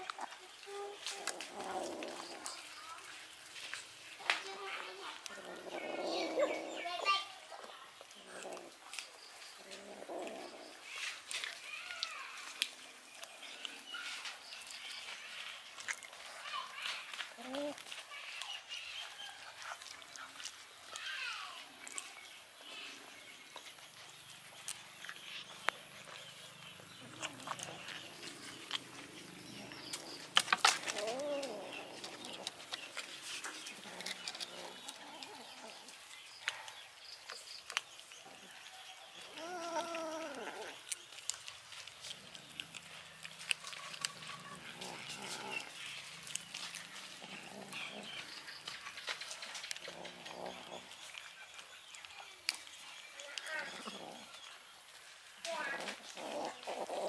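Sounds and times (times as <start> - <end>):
cats chewing wet food: 0.0 - 57.0.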